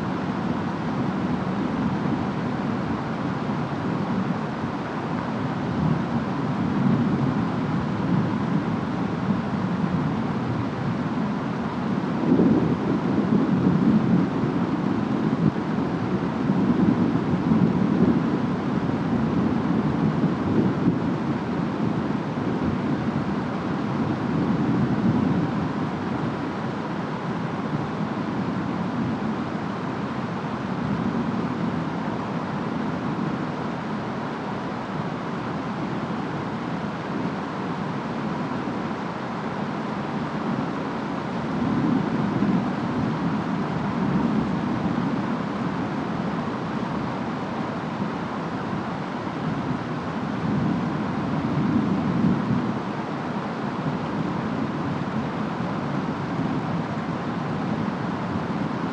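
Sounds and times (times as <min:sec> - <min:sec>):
steady rain: 0:00.0 - 0:58.9
wind: 0:00.0 - 0:58.9.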